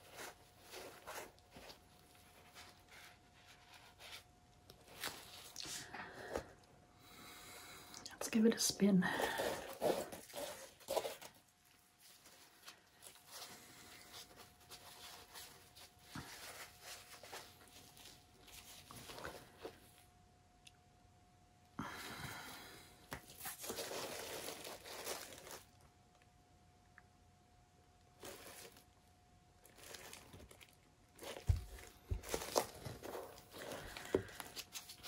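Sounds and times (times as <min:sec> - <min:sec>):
rustling and crinkling handling noise: 0:00.0 - 0:06.7, 0:08.2 - 0:20.2, 0:22.4 - 0:26.2, 0:28.1 - 0:35.0.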